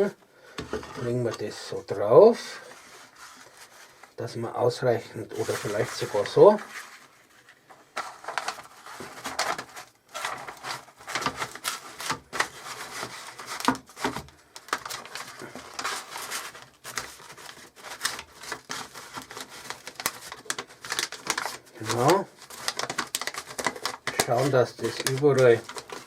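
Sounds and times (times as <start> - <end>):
paper rustling and rubbing: 2.6 - 4.2, 5.3 - 26.0.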